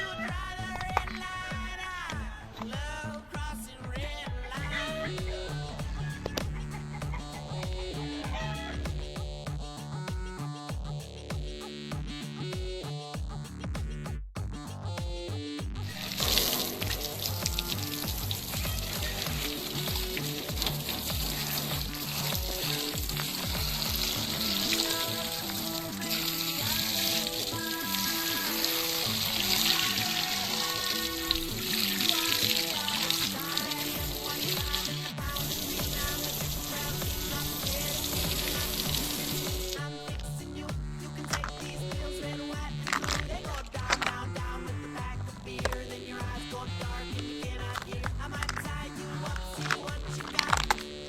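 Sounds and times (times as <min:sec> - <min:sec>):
instrumental music with drum beat: 0:00.0 - 0:51.0.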